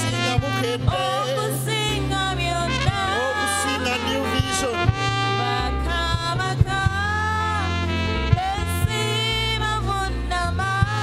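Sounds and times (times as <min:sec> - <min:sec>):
bass line: 0:00.0 - 0:11.0
trumpet melody: 0:00.0 - 0:11.0.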